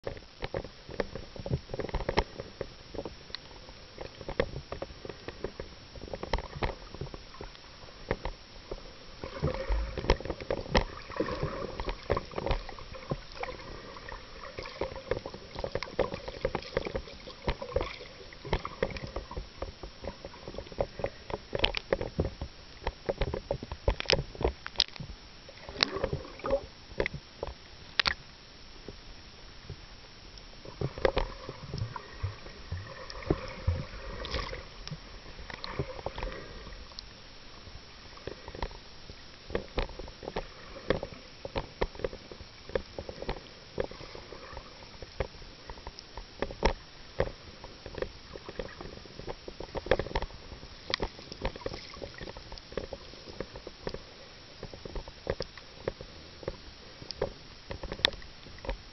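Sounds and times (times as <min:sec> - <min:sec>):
muffled underwater water noise: 0:00.0 - 0:58.9.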